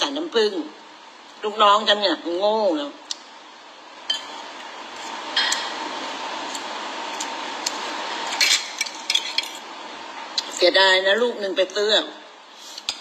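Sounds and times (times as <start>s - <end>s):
background hiss and hum: 0.0s - 13.0s.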